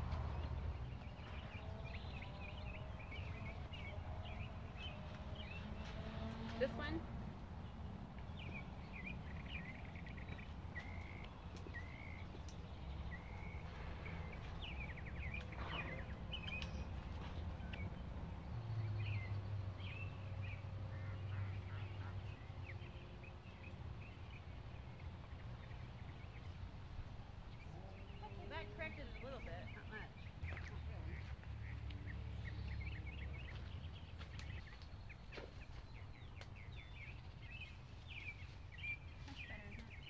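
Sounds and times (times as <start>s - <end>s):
songbirds chirping and singing: 0.0s - 40.0s.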